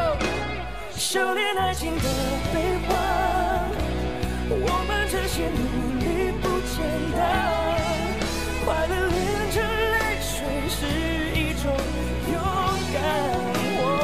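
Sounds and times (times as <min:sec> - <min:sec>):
band accompaniment: 0:00.0 - 0:14.0.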